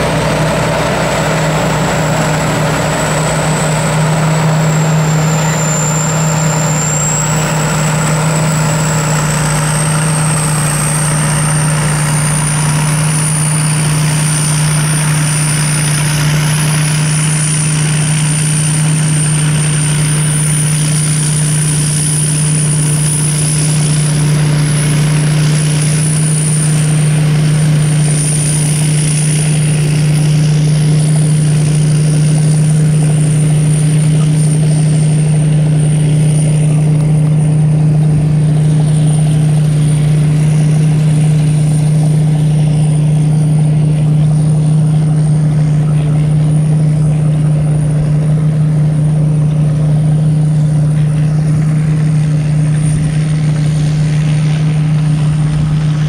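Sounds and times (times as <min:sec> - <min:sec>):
motor humming and whining: 0:00.0 - 0:56.0.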